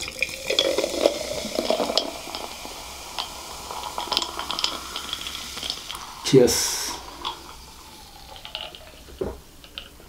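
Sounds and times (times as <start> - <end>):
cola fizzing: 0.0 - 10.0
cola pouring and gurgling: 0.0 - 10.0
ice crackling: 0.0 - 10.0.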